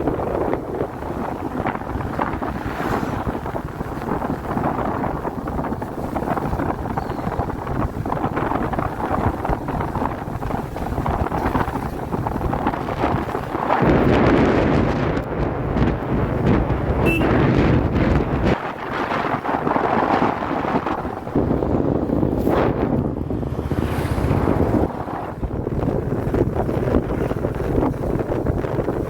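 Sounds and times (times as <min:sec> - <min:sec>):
motorcycle engine rumbling: 0:00.0 - 0:29.0
wind buffeting microphone: 0:00.0 - 0:29.0.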